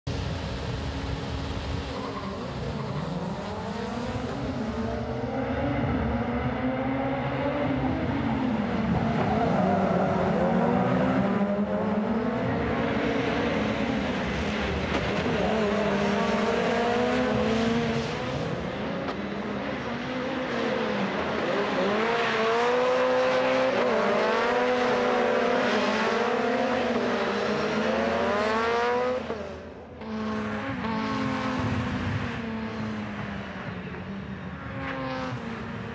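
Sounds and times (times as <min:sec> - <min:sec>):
racing car engines revving hard: 0:00.7 - 0:35.9.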